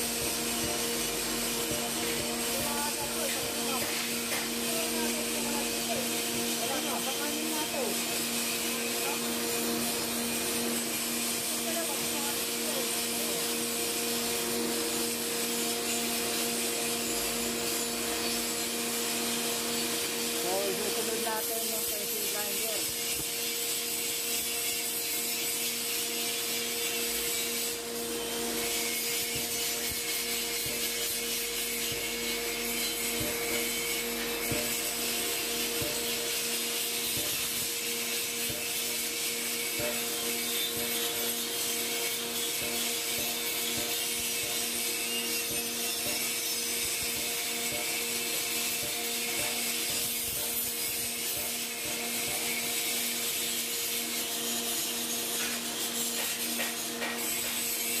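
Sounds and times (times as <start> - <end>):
grinding wheel hissing on metal: 0.0 - 58.0.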